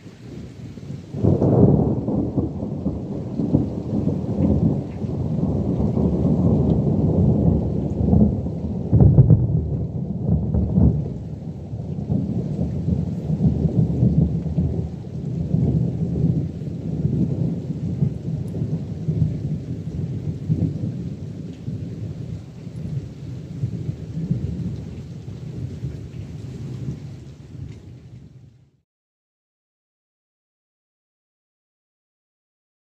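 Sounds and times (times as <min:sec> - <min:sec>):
rain hissing: 0:00.0 - 0:28.8
rolling thunder: 0:00.1 - 0:28.6.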